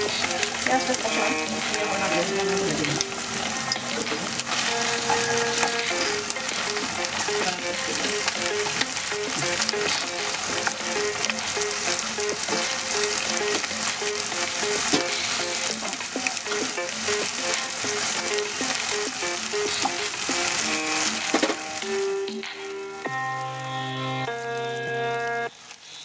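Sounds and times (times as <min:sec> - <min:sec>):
wooden spatula stirring: 0:00.0 - 0:21.6
food sizzling in hot oil: 0:00.0 - 0:26.0.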